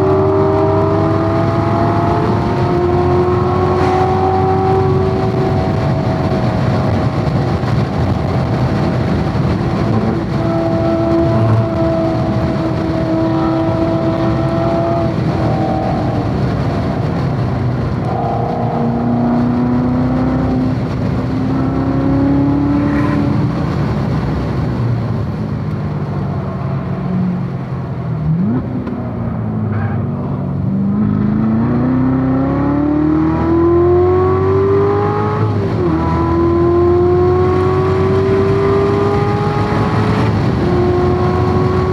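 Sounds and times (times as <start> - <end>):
car engine revving through gears: 0.0 - 41.9
road and wind noise: 0.0 - 41.9.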